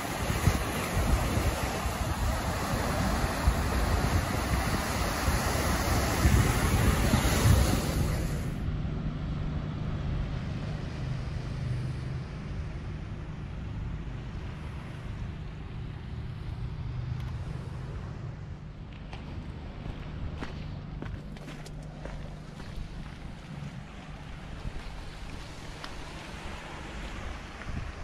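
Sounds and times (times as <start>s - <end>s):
wind rushing over microphone: 0.0s - 21.0s, 22.8s - 28.0s
steady low hum: 0.0s - 28.0s.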